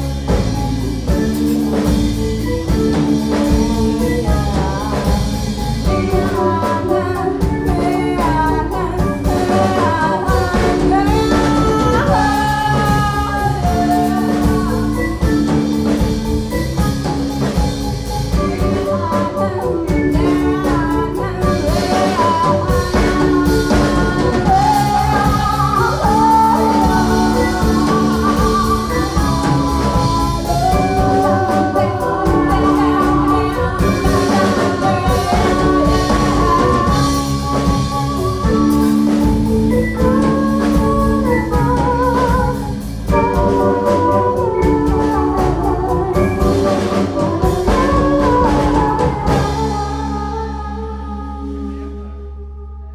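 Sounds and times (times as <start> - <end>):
band with keyboard and drums: 0.0 - 52.9
women singing together: 3.4 - 15.2, 18.5 - 51.4.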